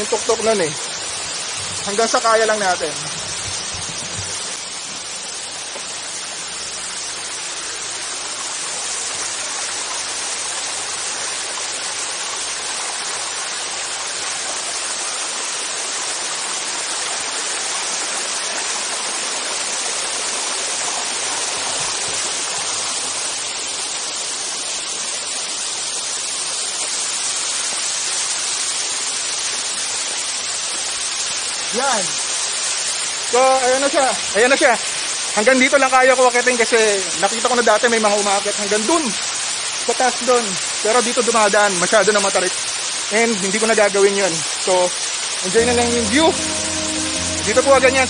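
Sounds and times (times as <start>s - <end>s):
water rushing over stones: 0.0s - 46.0s.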